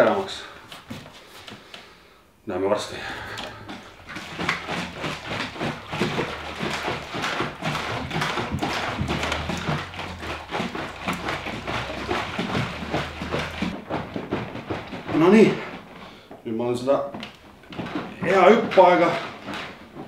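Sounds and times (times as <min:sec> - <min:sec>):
liquid sloshing in plastic bucket: 0:02.9 - 0:20.0
bucket knocks: 0:03.0 - 0:16.2, 0:16.8 - 0:20.0.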